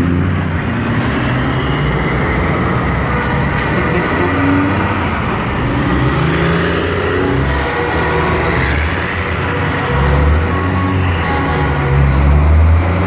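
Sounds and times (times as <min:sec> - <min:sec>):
truck diesel engines passing: 0:00.0 - 0:13.0.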